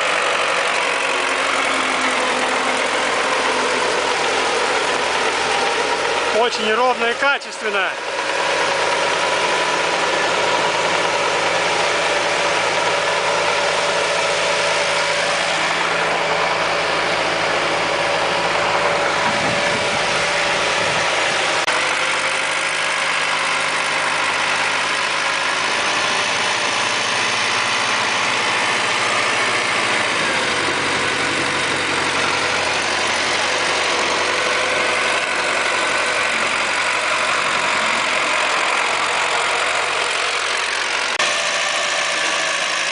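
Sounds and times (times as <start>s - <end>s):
rotary tiller mechanical whine: 0.0s - 42.9s
tractor engine running: 0.0s - 42.9s.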